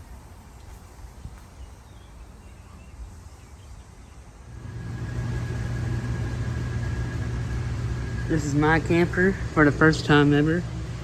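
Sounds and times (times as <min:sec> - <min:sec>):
steady mechanical hum: 0:00.0 - 0:11.0
low outdoor rumble: 0:02.1 - 0:11.0.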